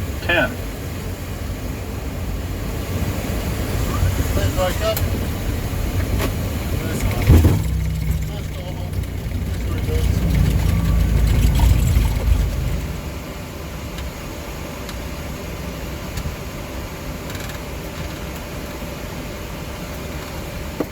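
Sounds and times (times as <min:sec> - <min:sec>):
aircraft low rumble: 0:00.0 - 0:20.6
airframe and engine noise rushing: 0:00.0 - 0:20.9.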